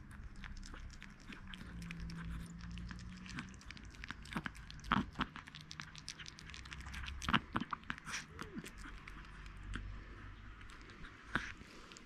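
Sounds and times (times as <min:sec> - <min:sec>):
puppy licking and chewing: 0:00.0 - 0:12.0.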